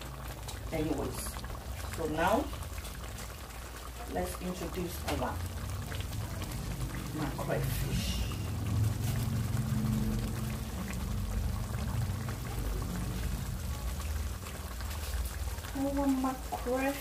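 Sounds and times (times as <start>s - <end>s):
sauce bubbling in a pot: 0.0s - 17.0s.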